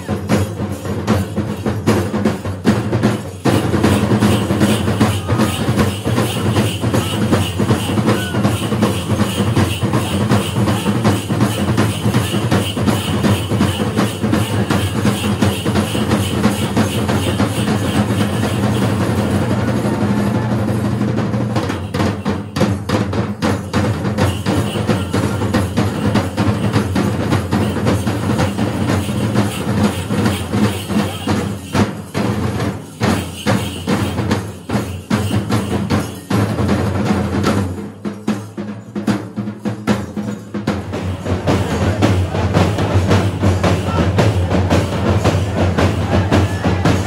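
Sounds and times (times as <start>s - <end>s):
fast dense drumming: 0.0s - 47.0s.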